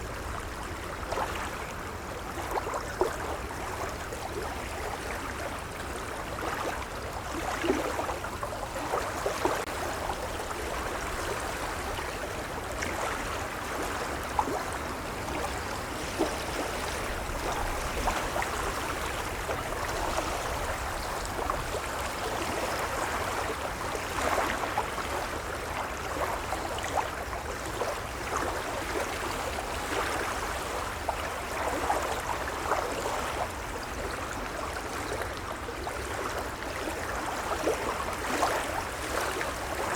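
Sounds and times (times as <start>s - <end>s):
waves lapping: 3.8s - 39.9s.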